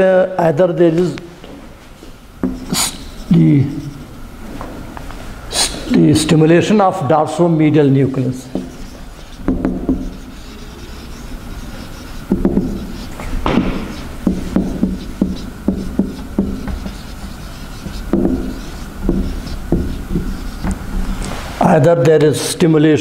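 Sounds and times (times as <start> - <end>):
steady low hum: 0.0 - 23.0
marker rubbing on whiteboard: 2.4 - 21.7.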